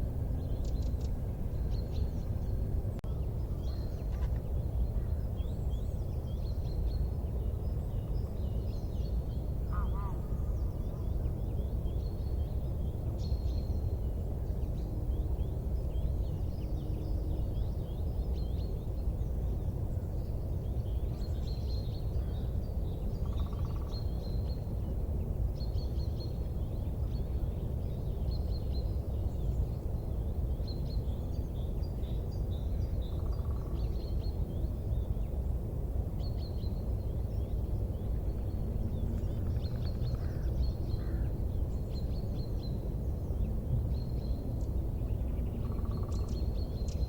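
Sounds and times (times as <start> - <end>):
steady low rumbling noise: 0.0 - 47.0.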